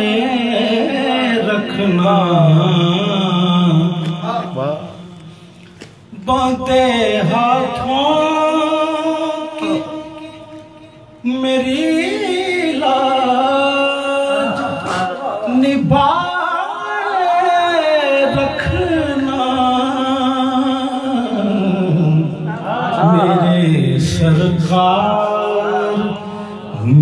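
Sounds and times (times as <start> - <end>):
man singing into microphone: 0.0 - 5.1, 6.1 - 27.0.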